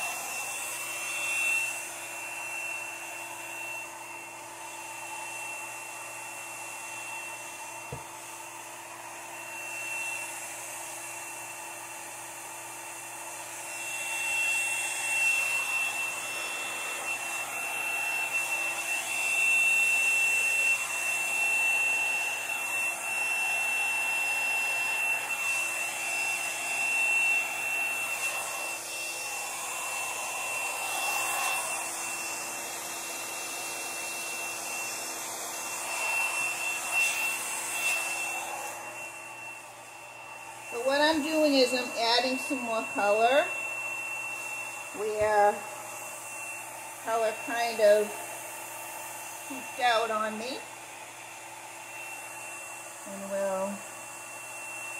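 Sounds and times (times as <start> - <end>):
hair dryer blowing air: 0.0 - 54.9.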